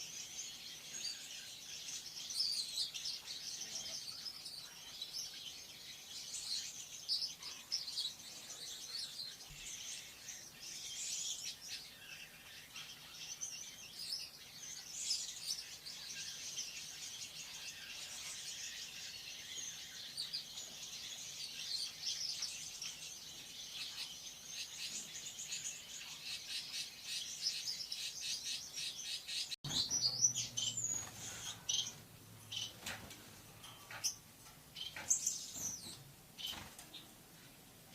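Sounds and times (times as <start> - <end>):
lovebird chirping: 0.0 - 32.9.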